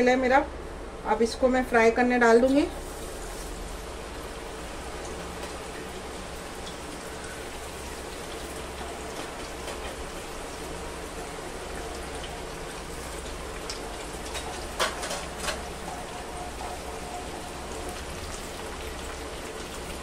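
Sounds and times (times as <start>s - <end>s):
fries sizzling in hot oil: 1.7s - 20.0s.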